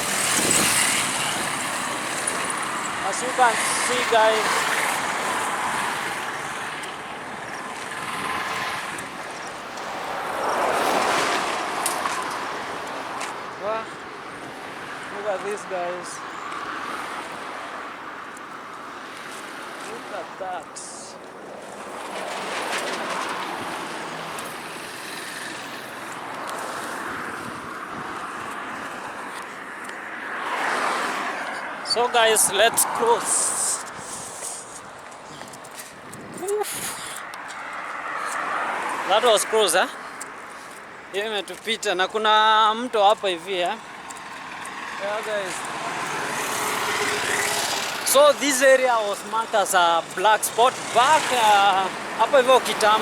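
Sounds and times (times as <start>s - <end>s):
vehicles passing on highway: 0.0s - 53.0s.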